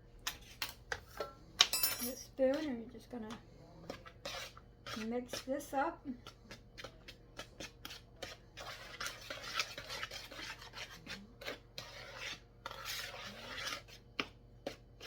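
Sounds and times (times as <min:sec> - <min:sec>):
spoon scraping dry ingredients: 0:00.2 - 0:15.0.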